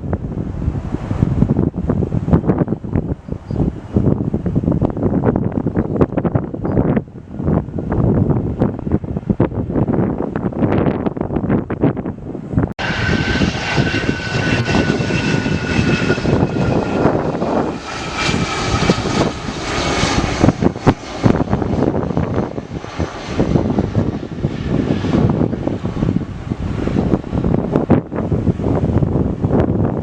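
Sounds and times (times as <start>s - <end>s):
jet engines passing: 0.0s - 30.0s
wind buffeting microphone: 0.0s - 30.0s.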